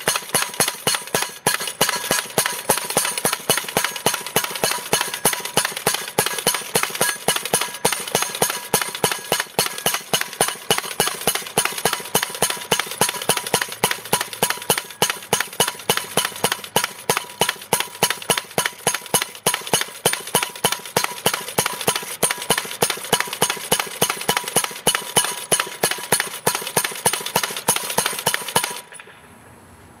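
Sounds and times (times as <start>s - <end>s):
post driver hammering metal post: 0.0s - 29.0s.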